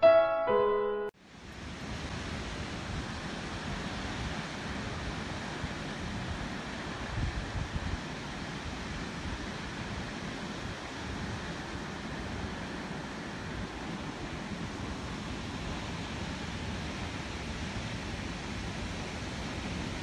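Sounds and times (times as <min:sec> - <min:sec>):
rushing water roar: 0:01.3 - 0:20.0
wind rumble on microphone: 0:01.5 - 0:20.0.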